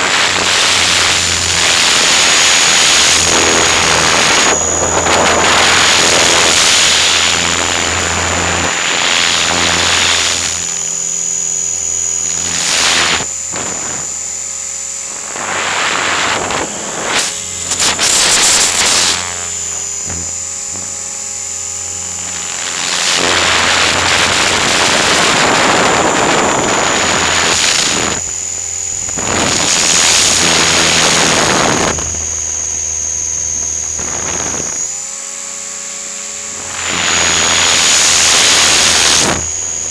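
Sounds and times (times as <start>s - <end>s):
high whine of helicopter motor: 0.0s - 39.9s
rotor wash and wind noise: 0.0s - 39.9s.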